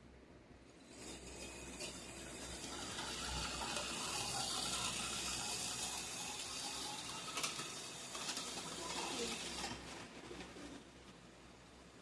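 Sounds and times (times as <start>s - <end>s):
model train whirring rattle: 0.7s - 11.9s.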